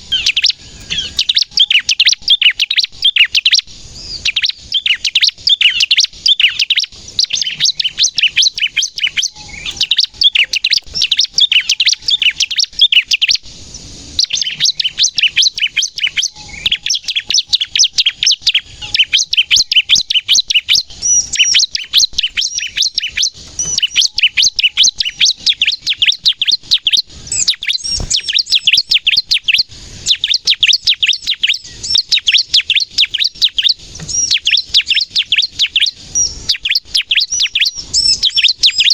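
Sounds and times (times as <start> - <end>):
bird singing sharp high chirps: 0.0 - 38.9.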